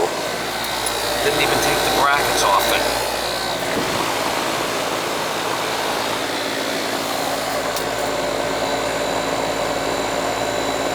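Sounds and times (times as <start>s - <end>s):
air conditioner fan and hum: 0.0s - 10.9s.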